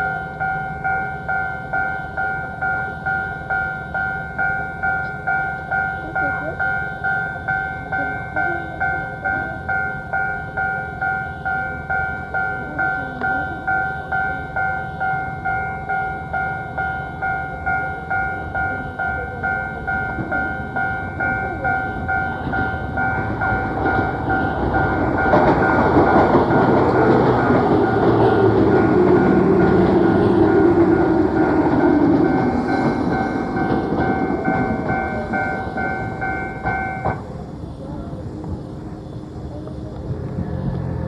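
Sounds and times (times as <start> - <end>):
level-crossing alarm clanging: 0.0 - 40.0
train passing: 0.0 - 41.0.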